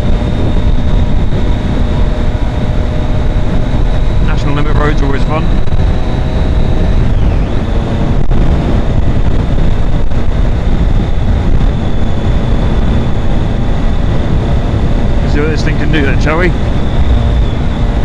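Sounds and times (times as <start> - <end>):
motorcycle engine running: 0.0 - 18.0
wind rush: 0.0 - 18.0.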